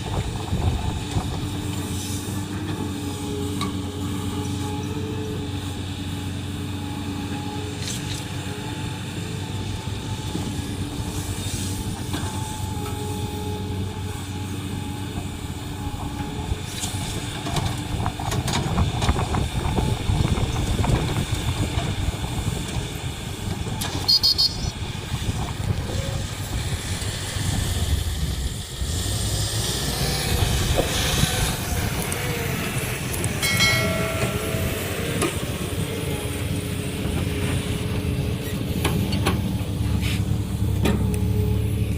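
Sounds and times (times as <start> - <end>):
machinery clanks and rattles: 0.0 - 28.7, 30.3 - 41.9
heavy diesel machinery running: 0.0 - 41.9.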